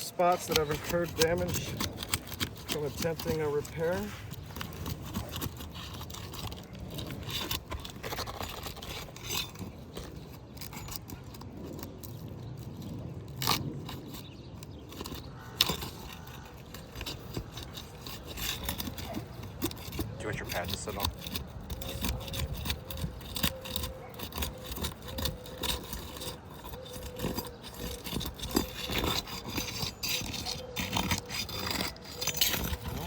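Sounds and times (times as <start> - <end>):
roof shingles scraping and crackling: 0.0 - 33.0.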